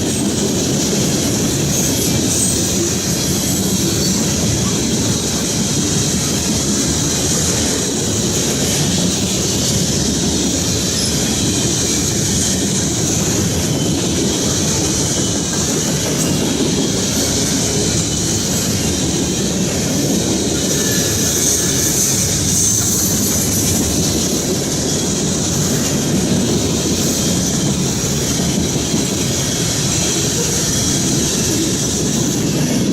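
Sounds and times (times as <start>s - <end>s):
train wheels clacking over rail joints: 0.0s - 32.9s.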